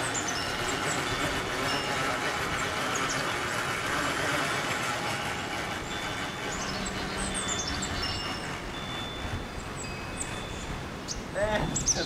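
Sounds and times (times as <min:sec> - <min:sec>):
electric winch motor whirring: 0:00.0 - 0:11.4
birds chirping faintly: 0:00.0 - 0:12.0.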